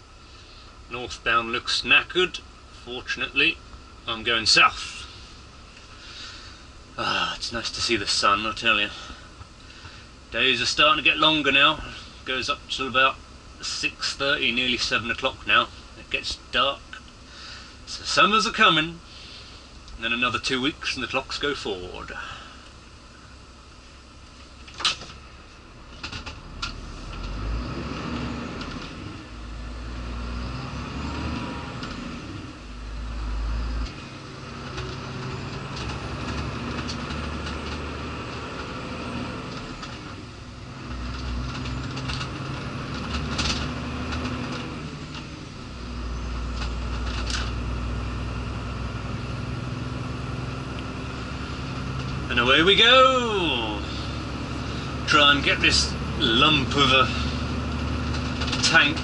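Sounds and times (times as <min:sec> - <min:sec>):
lorry diesel engine running: 0:00.0 - 0:59.0.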